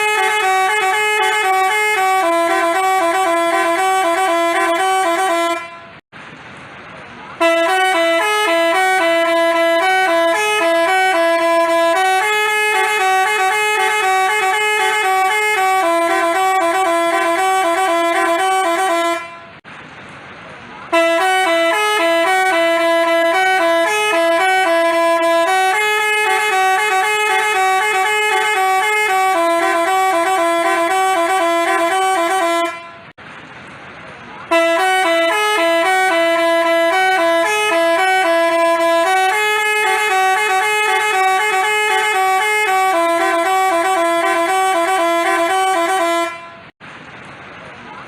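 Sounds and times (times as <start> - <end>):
multi-tone bus horn melody: 0.0 - 6.0, 7.3 - 19.6, 20.8 - 33.2, 34.4 - 46.8.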